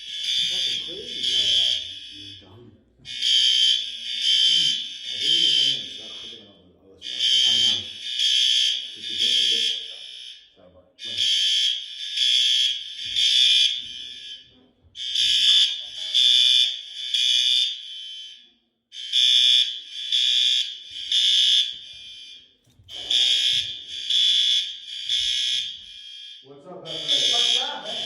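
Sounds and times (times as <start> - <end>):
fire alarm horn beeps: 0.0 - 2.5, 3.1 - 6.4, 7.0 - 28.0.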